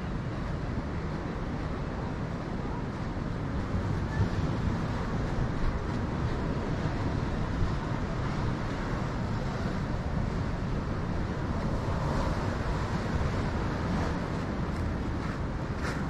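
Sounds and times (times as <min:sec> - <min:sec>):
ocean surf on rocks: 0:00.0 - 0:16.0
wind buffeting microphone: 0:00.0 - 0:16.0.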